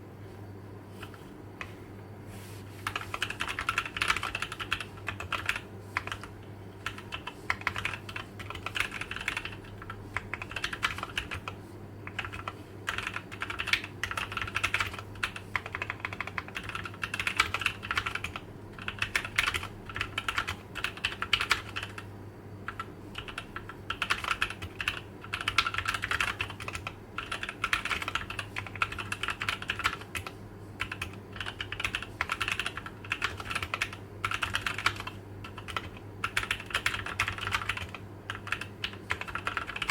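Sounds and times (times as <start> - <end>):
faint steady hum: 0.0 - 39.9
mechanical keyboard typing: 2.8 - 22.0, 22.7 - 39.9.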